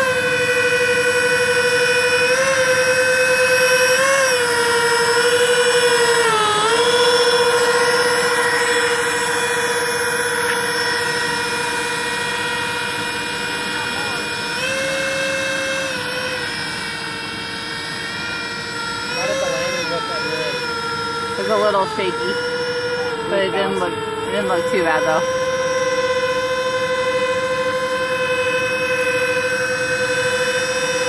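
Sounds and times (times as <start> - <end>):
electric ducted fans whining: 0.0 - 31.0.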